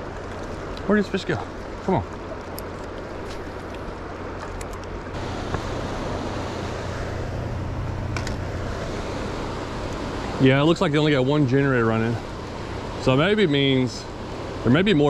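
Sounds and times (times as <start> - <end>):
low hum: 0.0 - 15.0
water rushing: 0.0 - 15.0.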